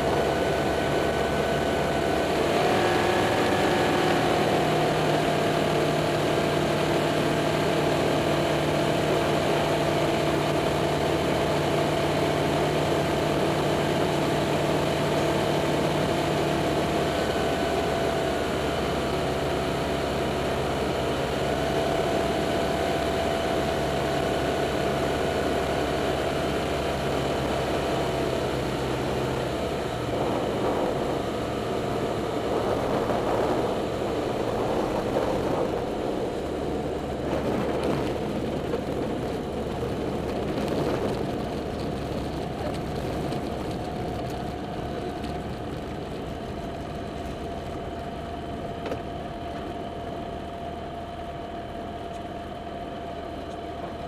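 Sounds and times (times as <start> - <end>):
light airplane engine and propeller: 0.0 - 54.0.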